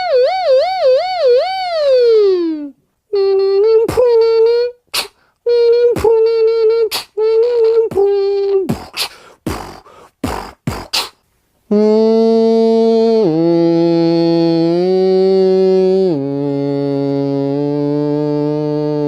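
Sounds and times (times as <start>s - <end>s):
man beatboxing: 3.1s - 19.0s.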